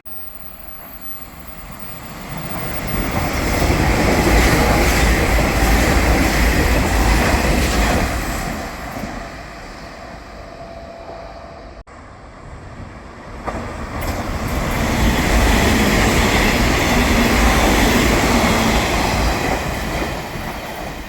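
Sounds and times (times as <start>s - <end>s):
train wheels rumbling on rails: 0.1s - 21.0s.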